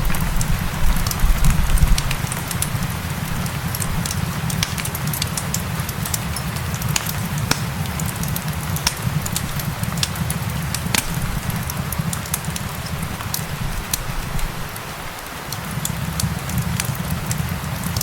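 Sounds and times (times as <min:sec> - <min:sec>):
fire crackling and popping: 0:00.0 - 0:18.0
gentle rain: 0:00.0 - 0:18.0.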